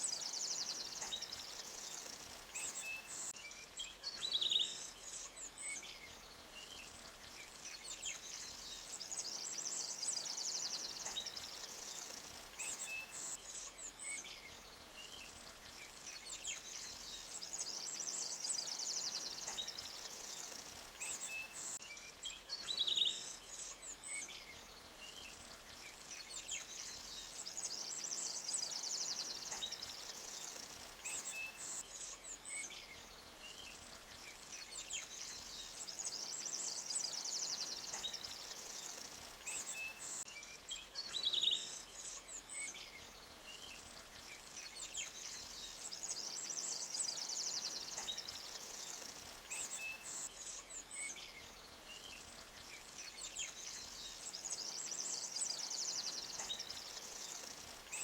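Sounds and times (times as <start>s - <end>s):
stream water: 0.0s - 21.9s, 22.5s - 41.1s, 41.7s - 58.0s
songbirds trilling and chirping: 0.0s - 58.0s.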